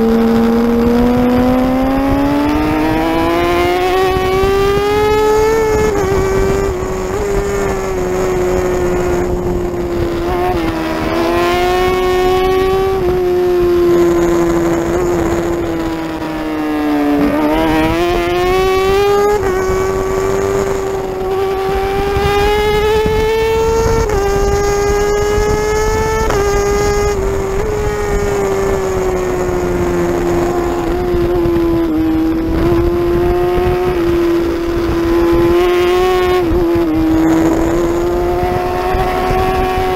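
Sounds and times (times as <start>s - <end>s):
motorcycle engine at high revs: 0.0s - 39.9s
wind rush: 0.0s - 39.9s.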